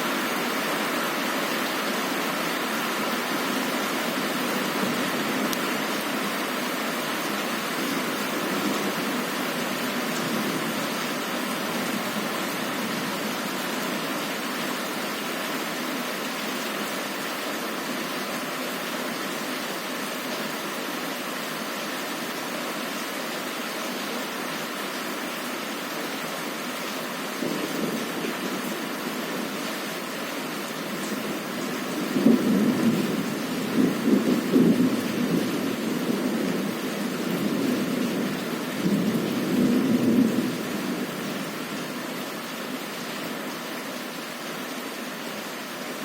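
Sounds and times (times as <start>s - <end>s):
heavy rain on a window: 0.0s - 46.0s.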